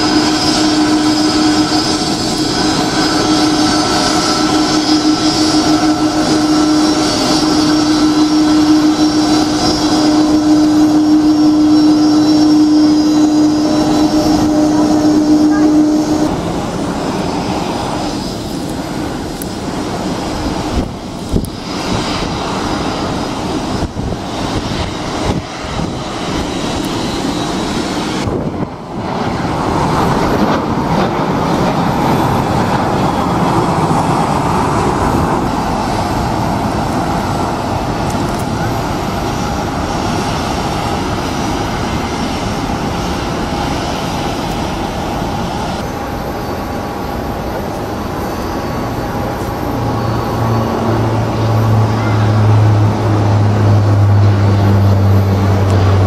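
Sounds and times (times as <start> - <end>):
jet engine hum and whine: 0.0 - 56.0
jet roar of plane taking off: 0.0 - 56.0
rough jet noise: 0.0 - 56.0.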